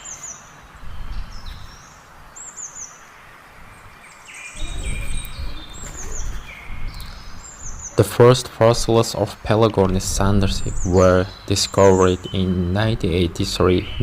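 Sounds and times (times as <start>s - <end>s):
bird chirps: 0.0s - 8.2s, 10.5s - 14.0s
outdoor background noise: 0.0s - 14.0s.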